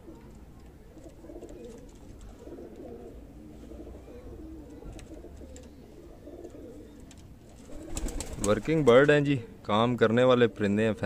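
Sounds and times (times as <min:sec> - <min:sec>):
pigeons cooing: 0:00.0 - 0:09.6.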